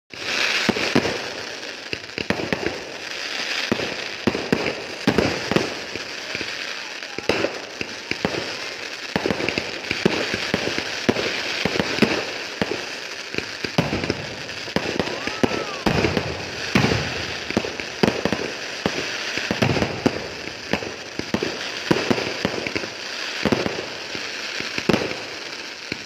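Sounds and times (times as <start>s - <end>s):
fireworks bangs and pops: 0.1s - 26.0s
fireworks crackle and hiss: 0.1s - 26.0s.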